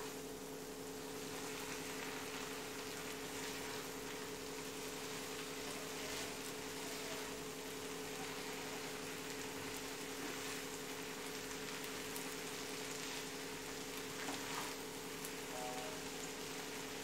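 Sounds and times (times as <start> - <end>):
noodles bubbling in a frying pan: 0.0 - 17.0.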